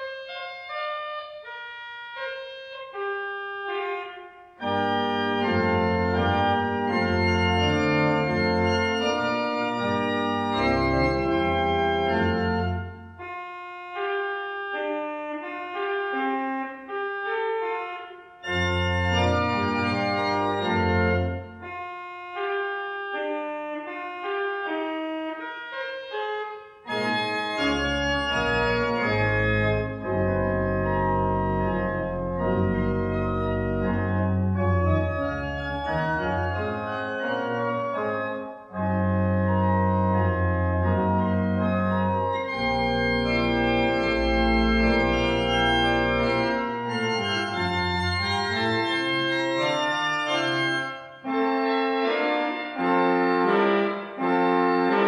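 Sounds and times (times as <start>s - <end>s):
church organ chords: 0.0s - 55.0s
deep organ pedal bass notes: 2.2s - 55.0s.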